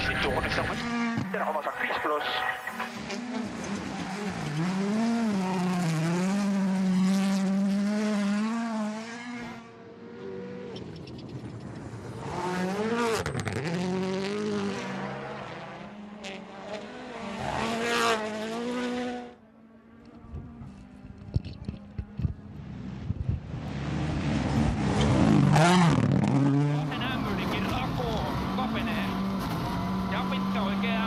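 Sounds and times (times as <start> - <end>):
rally car engines passing: 0.0 - 31.0.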